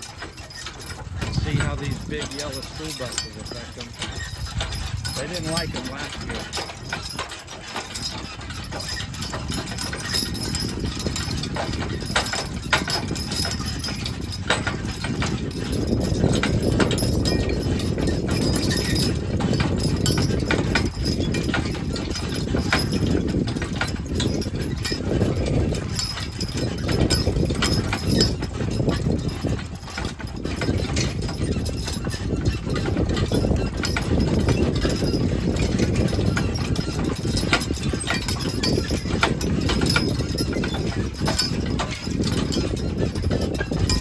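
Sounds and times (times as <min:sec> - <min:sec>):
horse hoofbeats: 0:00.0 - 0:44.0.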